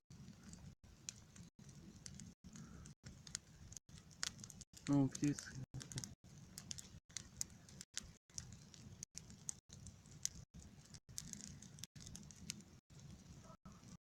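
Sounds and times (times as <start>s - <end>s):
campfire crackling: 0.1s - 14.0s
low fire hiss: 0.1s - 14.0s.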